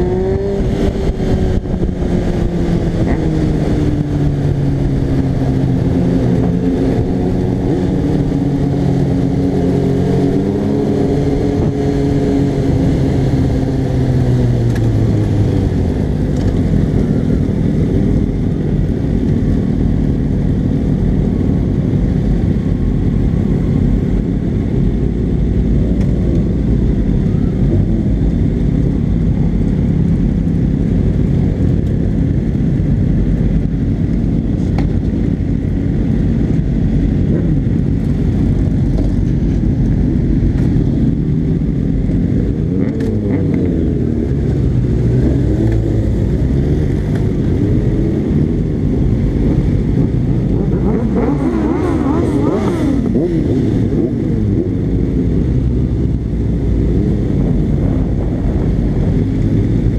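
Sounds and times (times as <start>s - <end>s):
motorcycle engines running: 0.0s - 59.9s
motorcycles revving: 0.0s - 59.9s.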